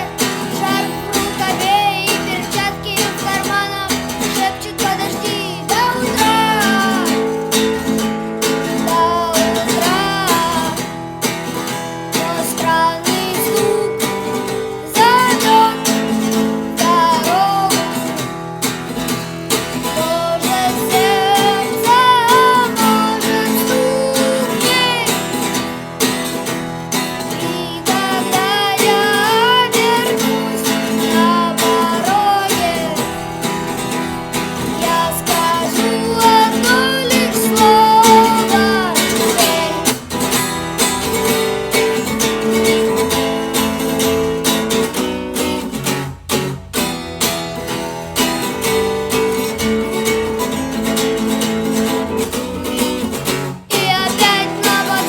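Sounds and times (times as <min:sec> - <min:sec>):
person singing: 0:00.0 - 0:18.4, 0:19.5 - 0:45.7, 0:48.4 - 0:55.0
acoustic guitar strumming: 0:00.0 - 0:55.0.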